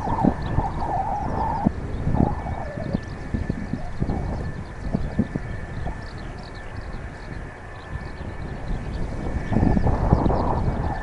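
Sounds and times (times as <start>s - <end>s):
jet engine whine: 0.0s - 11.0s
wind rumbling on microphone: 0.0s - 11.0s.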